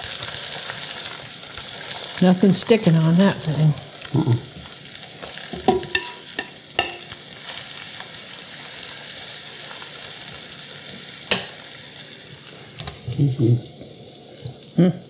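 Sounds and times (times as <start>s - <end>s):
eggs sizzling in oil: 0.0s - 15.0s.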